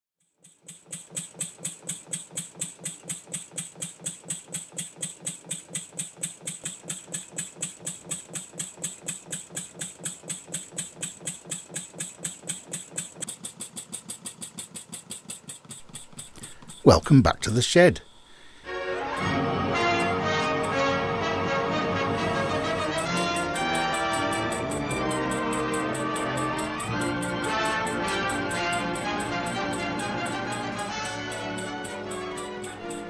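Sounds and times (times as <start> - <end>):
model steam engine beating: 0.2 - 17.6, 18.5 - 33.0.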